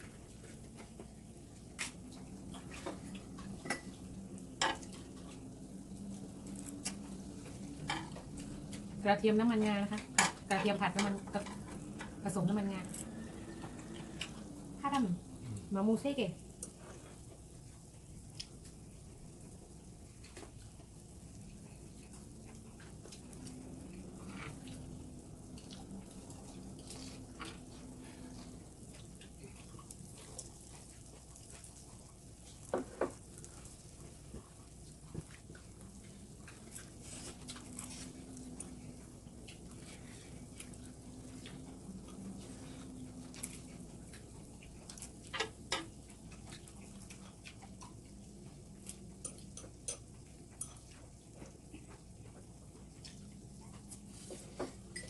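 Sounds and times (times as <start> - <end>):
eating sounds: 0.0 - 55.0.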